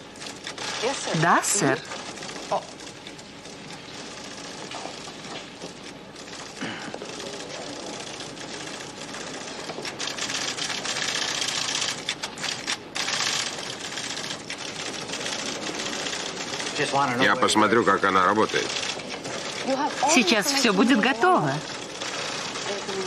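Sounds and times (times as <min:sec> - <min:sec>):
printer clattering: 0:00.0 - 0:23.0.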